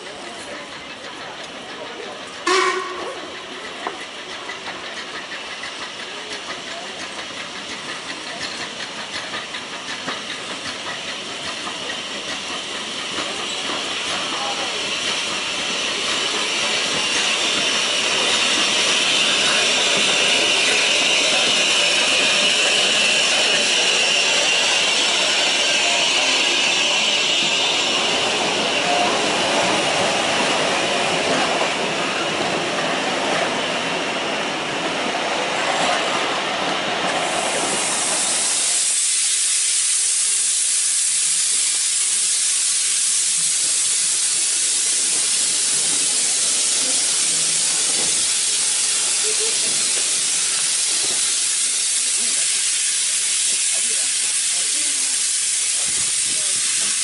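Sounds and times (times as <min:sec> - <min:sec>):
high hiss of escaping steam: 0:00.0 - 0:57.0
steam train rumbling: 0:00.0 - 0:57.0.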